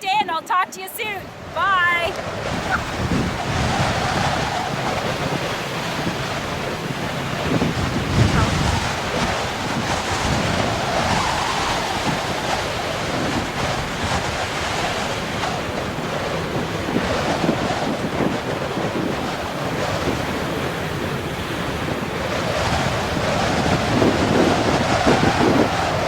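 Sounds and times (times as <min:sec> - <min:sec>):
wind buffeting microphone: 0:00.0 - 0:26.0
surf breaking on beach: 0:00.8 - 0:26.0.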